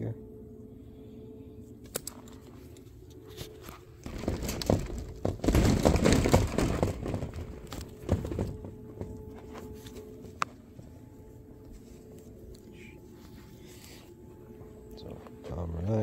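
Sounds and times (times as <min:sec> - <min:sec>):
person shuffling and rustling: 0:02.4 - 0:15.9.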